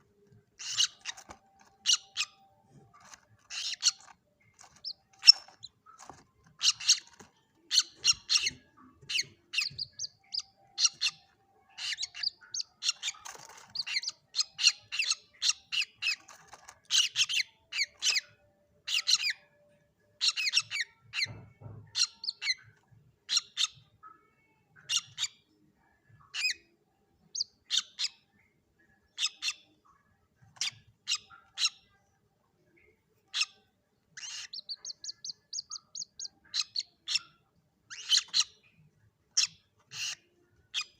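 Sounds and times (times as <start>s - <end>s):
young bird high chirps: 0.4s - 19.6s, 20.2s - 32.0s, 32.7s - 40.9s.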